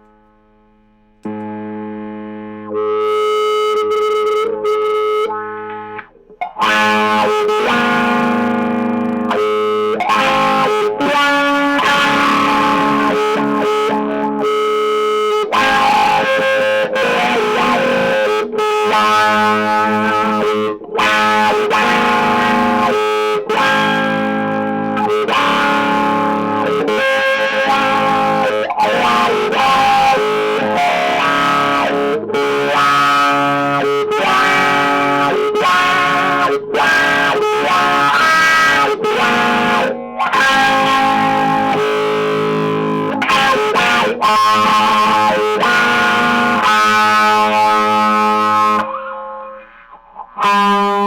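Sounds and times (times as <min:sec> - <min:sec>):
overdriven electric guitar: 0:00.0 - 0:51.0.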